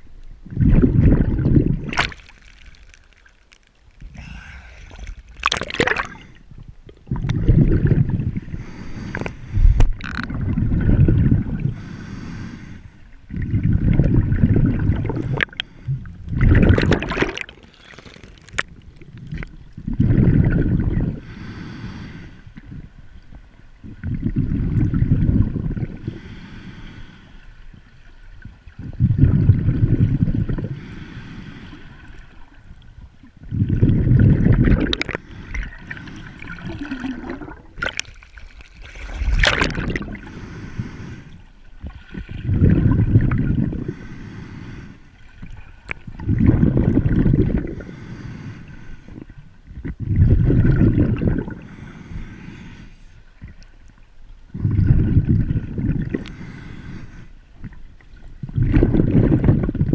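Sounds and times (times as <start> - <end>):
muffled underwater rush: 0.0 - 59.9.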